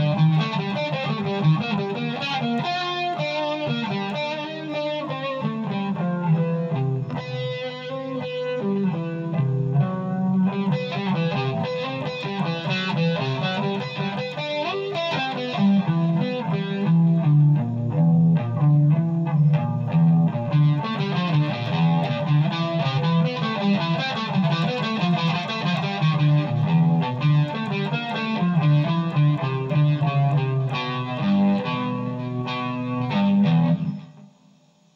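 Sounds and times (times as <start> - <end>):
distorted electric guitar: 0.0 - 34.7.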